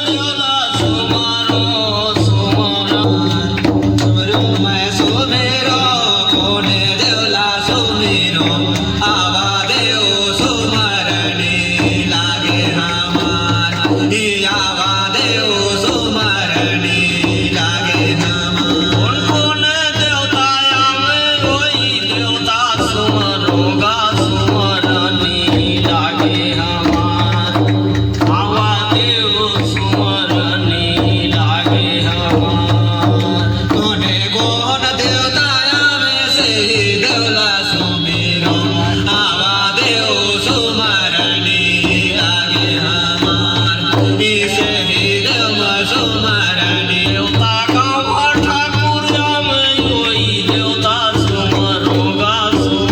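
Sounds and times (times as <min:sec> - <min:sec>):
devotional folk singing: 0:00.0 - 0:52.9
drums with steady beat: 0:00.0 - 0:52.9.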